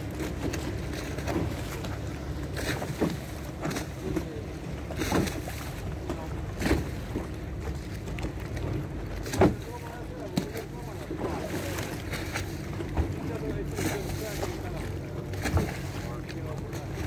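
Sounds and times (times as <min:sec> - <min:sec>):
water splashing against a boat: 0:00.0 - 0:17.0.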